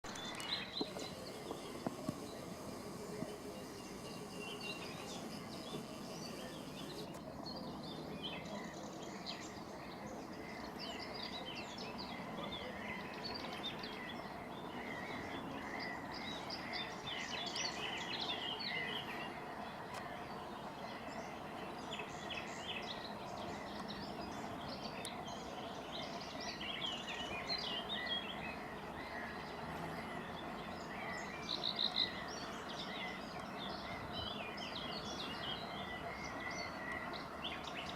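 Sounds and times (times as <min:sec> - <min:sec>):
birds chirping in chorus: 0:00.0 - 0:37.9
steady background noise: 0:00.1 - 0:37.9.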